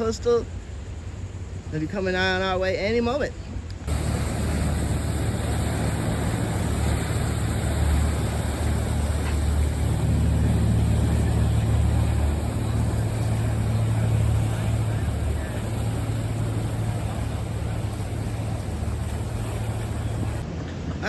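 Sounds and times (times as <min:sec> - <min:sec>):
motorboat engines rumbling: 0:00.0 - 0:21.0
water wash: 0:00.0 - 0:21.0
wind noise: 0:03.4 - 0:21.0.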